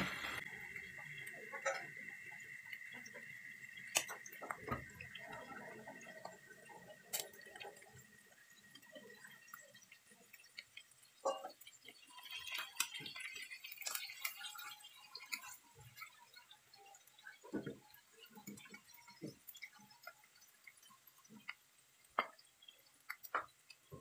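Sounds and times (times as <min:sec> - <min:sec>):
fish frying in a pan: 0:00.0 - 0:24.0.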